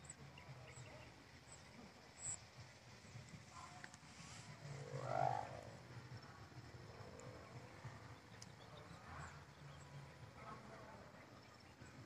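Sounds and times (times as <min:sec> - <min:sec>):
kite hummer buzzing drone: 0:00.0 - 0:12.0.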